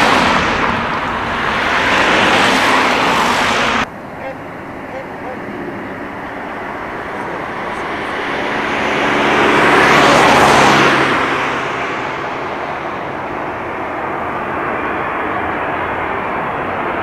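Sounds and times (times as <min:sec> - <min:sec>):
jet airliner engine noise: 0:00.0 - 0:17.0.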